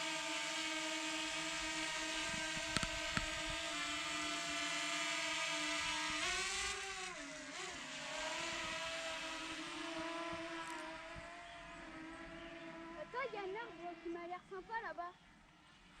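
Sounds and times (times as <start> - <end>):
drone propellers whining: 0.0 - 14.4.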